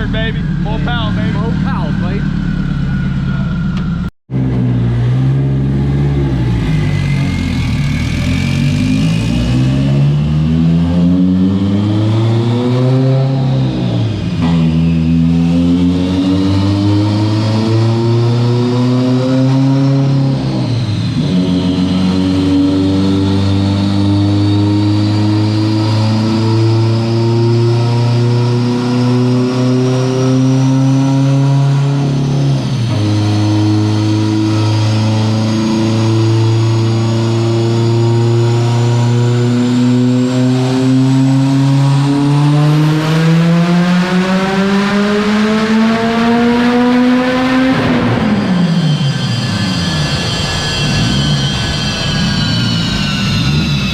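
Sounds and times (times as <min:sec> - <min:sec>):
car engine accelerating hard: 0:00.0 - 0:53.9.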